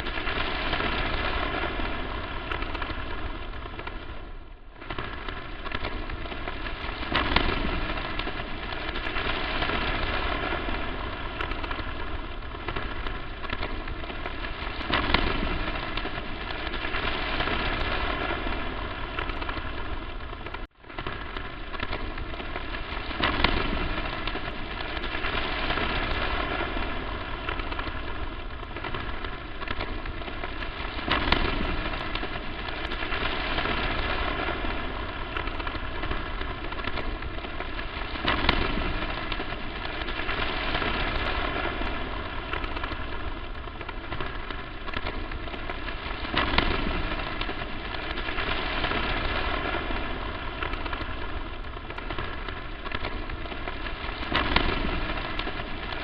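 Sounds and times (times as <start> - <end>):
electrical static crackle and hiss: 0.0 - 56.0.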